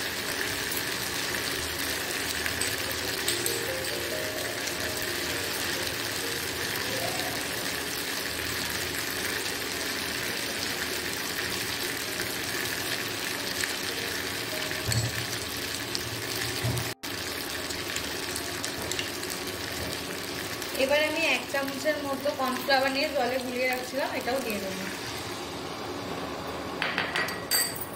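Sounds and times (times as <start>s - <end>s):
sauce sizzling in a wok: 0.0s - 26.8s.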